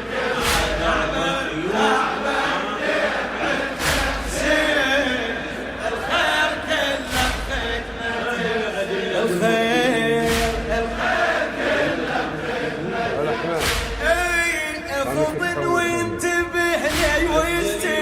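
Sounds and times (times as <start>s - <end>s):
men chanting in chorus: 0.0s - 18.0s.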